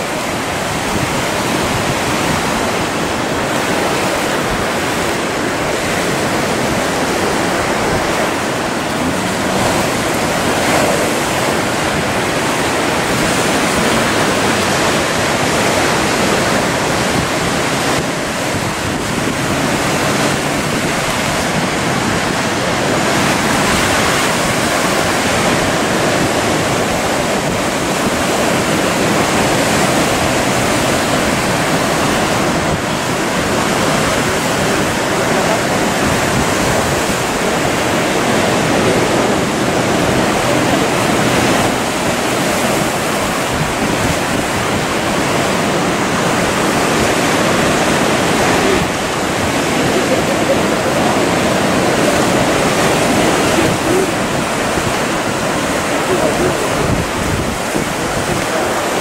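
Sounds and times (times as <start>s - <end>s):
ocean surf roaring: 0.0s - 59.0s.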